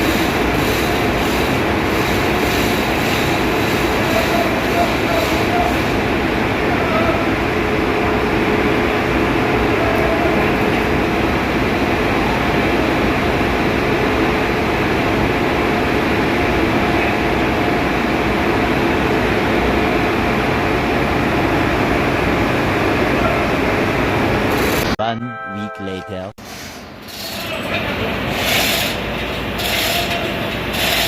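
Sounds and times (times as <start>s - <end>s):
engine room machinery noise: 0.0s - 25.0s, 26.4s - 31.0s.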